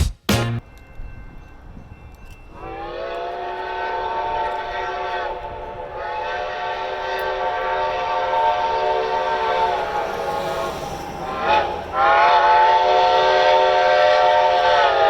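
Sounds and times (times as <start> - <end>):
steam locomotive whistle blowing: 2.6 - 15.0.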